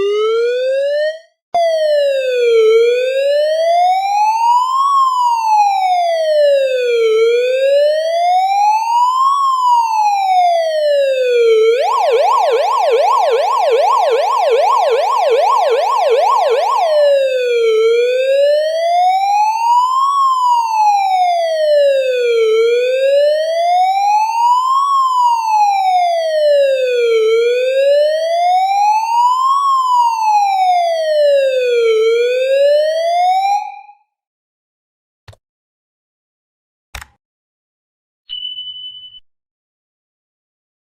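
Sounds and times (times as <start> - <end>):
police siren: 0.0 - 34.2.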